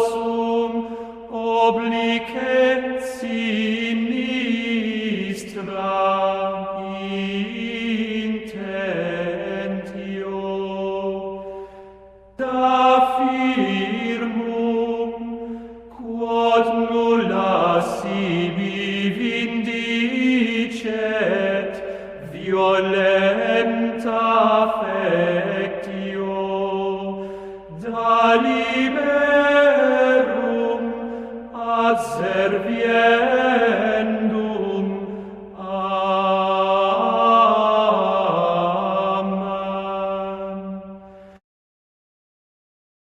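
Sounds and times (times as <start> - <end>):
chant on long held notes: 0.0 - 41.4.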